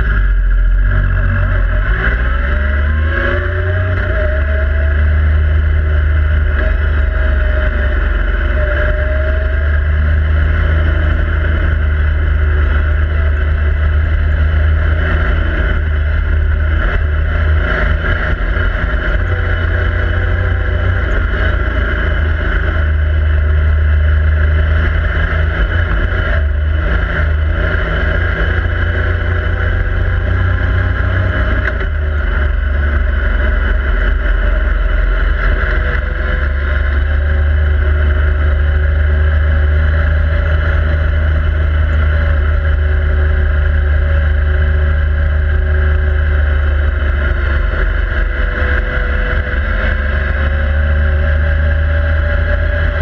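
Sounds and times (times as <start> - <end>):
deep engine drone: 0.0 - 53.0.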